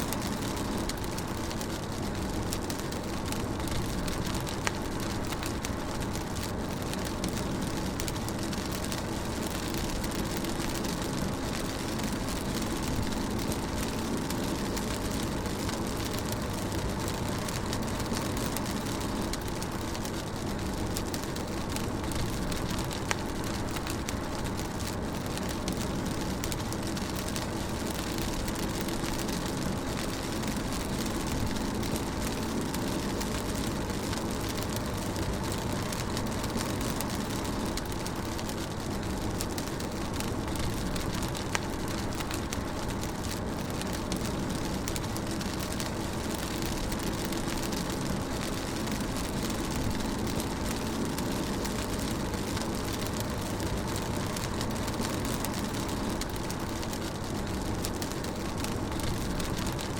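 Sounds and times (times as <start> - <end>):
rain hissing on car roof: 0.0 - 59.9
raindrop ticks: 0.0 - 59.9.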